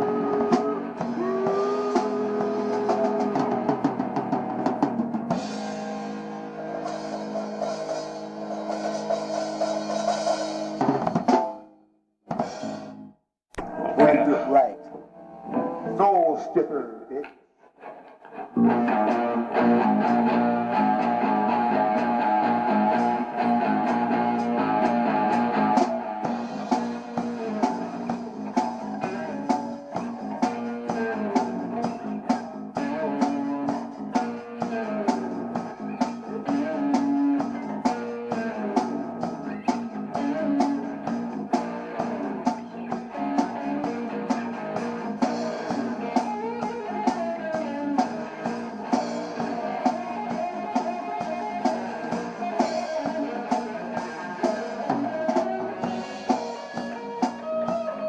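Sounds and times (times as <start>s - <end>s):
steady drum beat: 0.0s - 6.0s, 6.9s - 11.6s, 19.9s - 58.0s
electric guitar playing: 0.0s - 10.8s, 13.6s - 16.7s, 17.8s - 58.0s.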